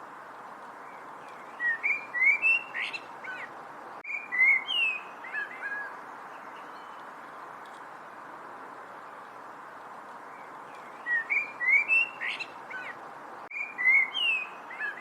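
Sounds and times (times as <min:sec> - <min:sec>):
faint steady hiss: 0:00.0 - 0:15.0
songbird singing: 0:00.0 - 0:15.0.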